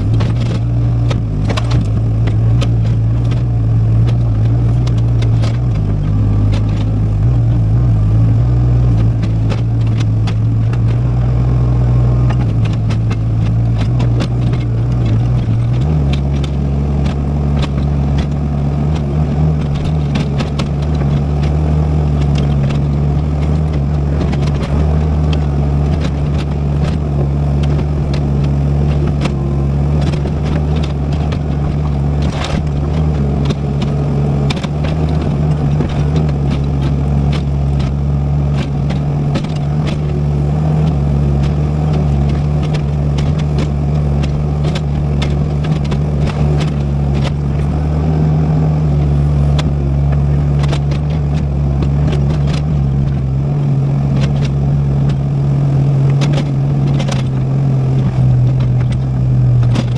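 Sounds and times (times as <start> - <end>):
clicks and scrapes: 0.0 - 59.9
excavator diesel engine running: 0.0 - 59.9.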